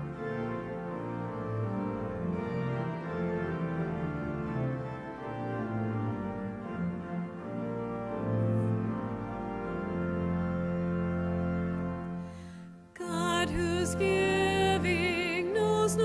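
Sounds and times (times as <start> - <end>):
church organ playing a hymn: 0.0 - 16.0.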